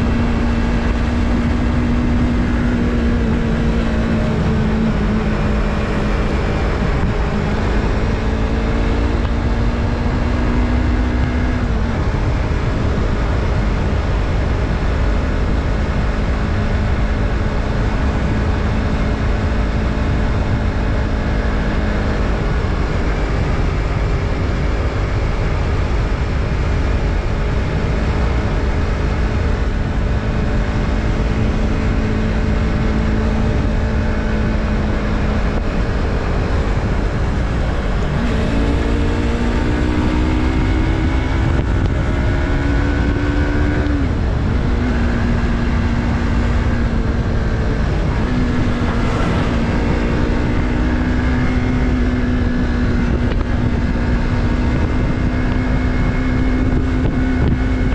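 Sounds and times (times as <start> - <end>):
motorcycle engine cruising: 0.0 - 57.9
wind and road rush: 0.0 - 57.9.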